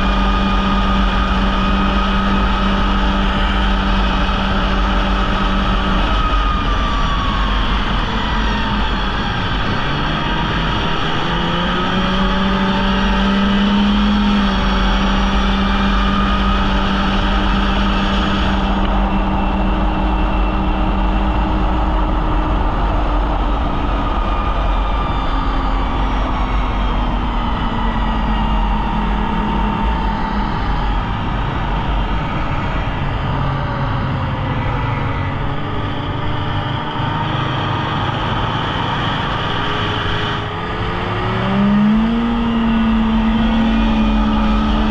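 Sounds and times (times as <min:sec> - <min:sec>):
snowmobile engine revving: 0:00.0 - 0:44.9
steady rushing noise: 0:00.0 - 0:44.9.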